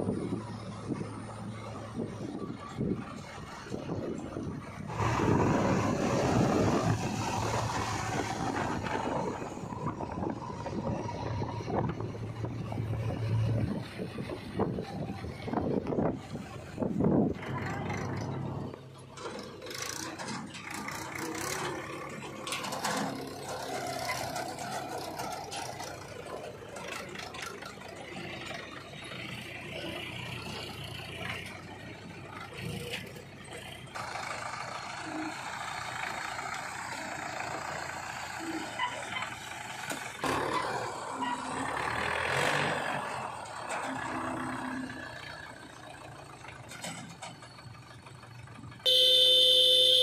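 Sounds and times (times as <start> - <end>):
backhoe loader working: 0.0 - 50.0
tractor diesel engine under load: 0.0 - 50.0.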